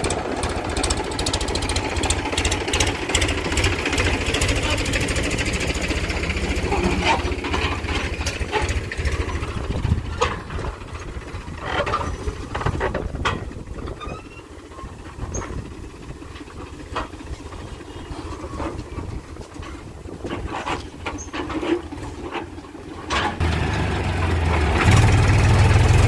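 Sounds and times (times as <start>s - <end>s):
trailer metal clanks: 0.0s - 25.9s
tractor diesel engine running: 0.0s - 26.0s.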